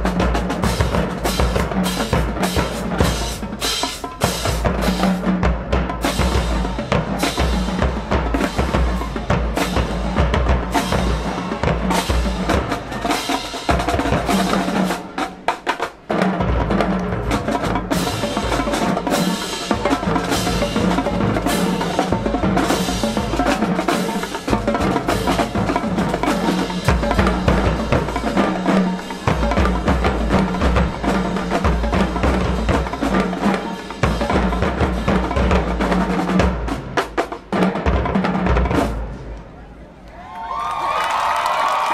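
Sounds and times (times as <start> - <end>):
marching drumline playing: 0.0 - 39.4.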